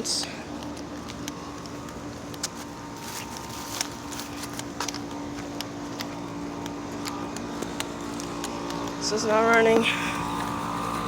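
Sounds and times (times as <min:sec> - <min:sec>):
air conditioner unit humming: 0:00.0 - 0:11.0.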